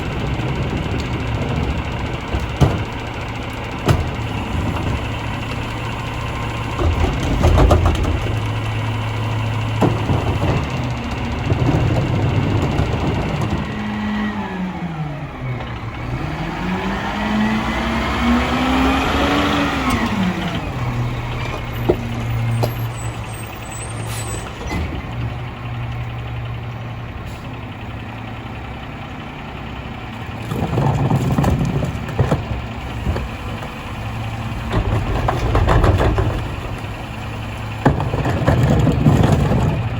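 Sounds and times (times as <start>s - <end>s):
clunks and bangs: 0.0s - 14.4s, 17.5s - 25.8s, 30.2s - 39.9s
diesel truck engine idling: 0.0s - 39.9s.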